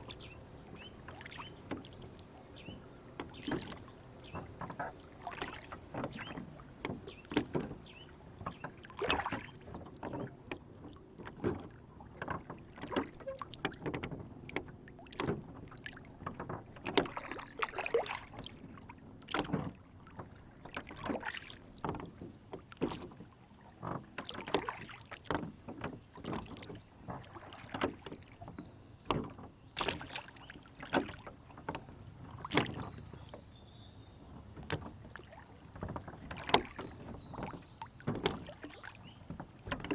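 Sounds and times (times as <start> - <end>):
light knocks on boat: 0.0 - 21.2, 21.8 - 39.9
small splashes: 0.0 - 39.9
water lapping against boat: 0.0 - 39.9.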